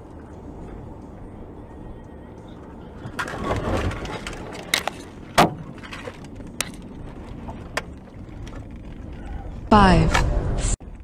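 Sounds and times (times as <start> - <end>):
rising rumble: 0.0 - 11.0
road noise inside car: 0.0 - 11.0.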